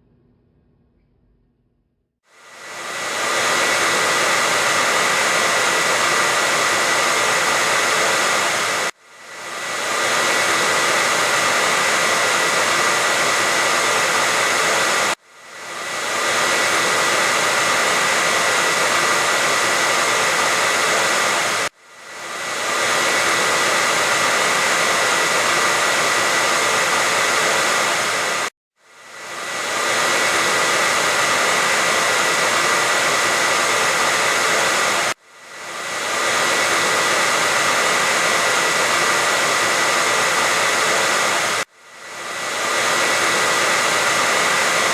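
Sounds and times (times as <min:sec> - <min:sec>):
hair dryer blowing: 0:02.3 - 0:44.9.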